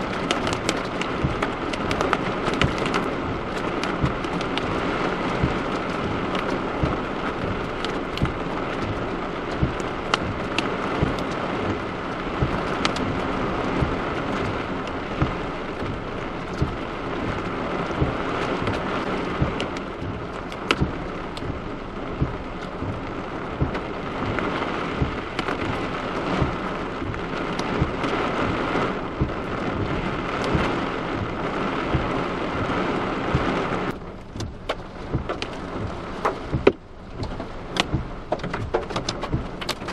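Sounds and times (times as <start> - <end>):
hailstones ticking: 0.0 - 39.9
heavy rain: 0.0 - 39.9.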